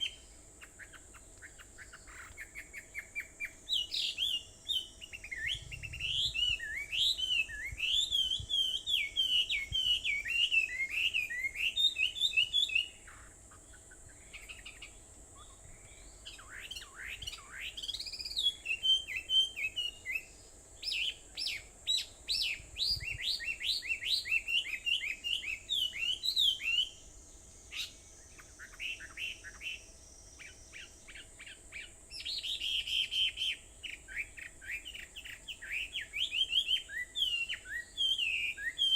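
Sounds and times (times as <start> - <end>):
birds chirping: 0.0 - 38.9
steady high-pitched hiss: 0.0 - 38.9.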